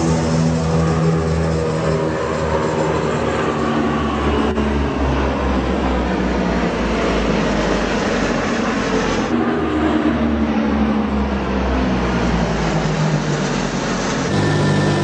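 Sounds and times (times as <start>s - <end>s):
propeller aircraft droning overhead: 0.0s - 15.0s.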